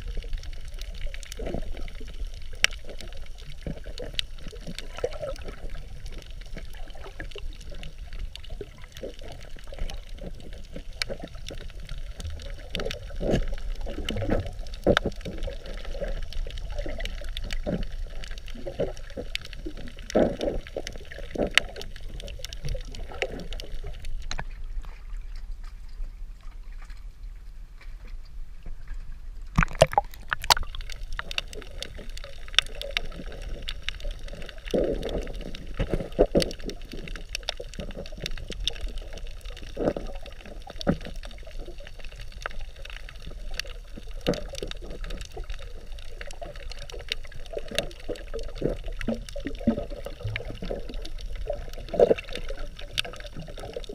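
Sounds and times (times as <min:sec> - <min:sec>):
sharp clicks and crackles: 0:00.0 - 0:26.0, 0:27.8 - 0:53.9
water sloshing and gurgling: 0:00.0 - 0:53.9.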